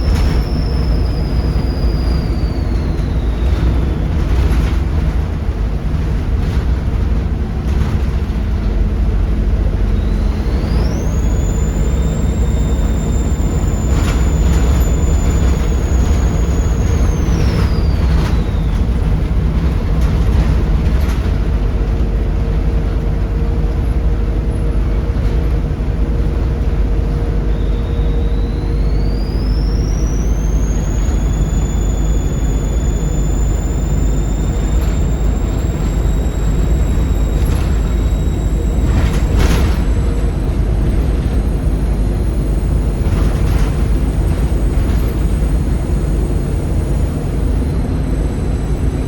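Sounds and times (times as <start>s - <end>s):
turbocharger whistle: 0.0s - 5.1s, 9.4s - 21.2s, 26.1s - 49.0s
diesel bus engine rumble: 0.0s - 49.0s.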